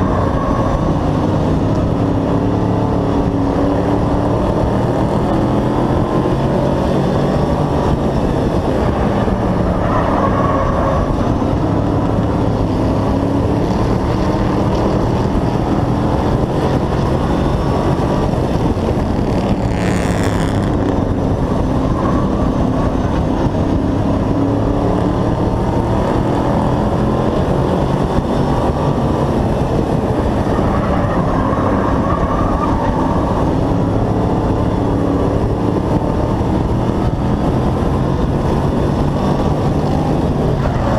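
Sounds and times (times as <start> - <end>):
race truck engine running hard: 0.0 - 40.9.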